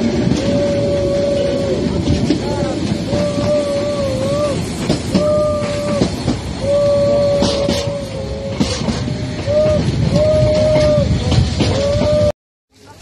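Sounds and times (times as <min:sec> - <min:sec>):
train rumbling and clattering: 0:00.0 - 0:13.0
steam locomotive whistle blasts: 0:00.2 - 0:12.3.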